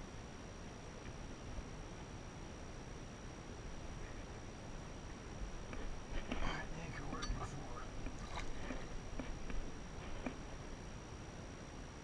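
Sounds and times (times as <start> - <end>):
faint steady hiss: 0.0 - 12.0
thin high whine: 0.0 - 12.0.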